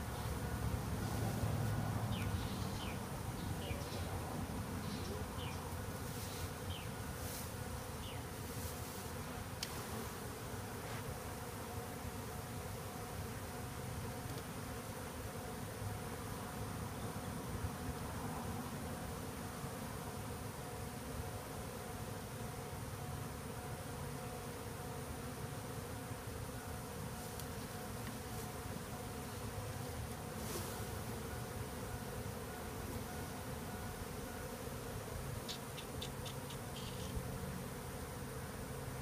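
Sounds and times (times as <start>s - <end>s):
honey bees buzzing: 0.0s - 39.0s.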